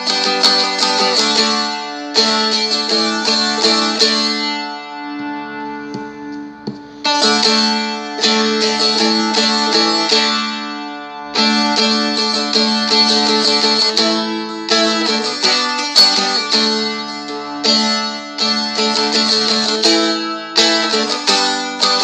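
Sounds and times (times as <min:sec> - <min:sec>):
dulcimer strumming with drone strings: 0:00.0 - 0:22.0.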